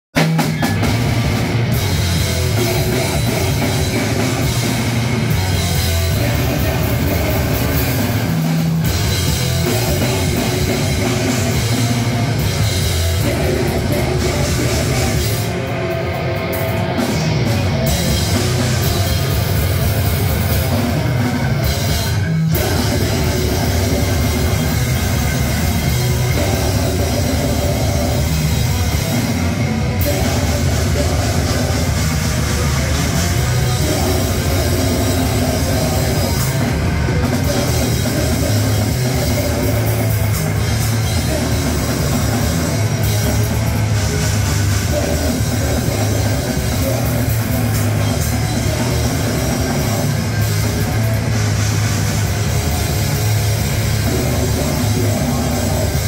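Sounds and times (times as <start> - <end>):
bass guitar: 0.0 - 56.0
distorted electric guitar: 0.0 - 56.0
fast drums: 0.0 - 56.0.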